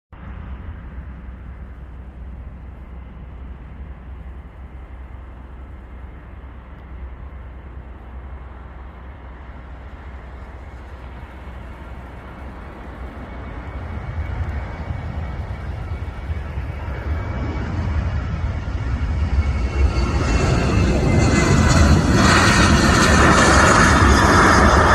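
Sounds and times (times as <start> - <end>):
jet engines at takeoff power: 0.2 - 24.9.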